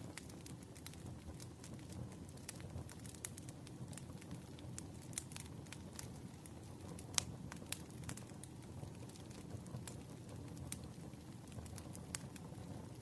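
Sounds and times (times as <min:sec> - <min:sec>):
burning logs crackling and popping: 0:00.0 - 0:13.0
low rumble of flames: 0:00.0 - 0:13.0.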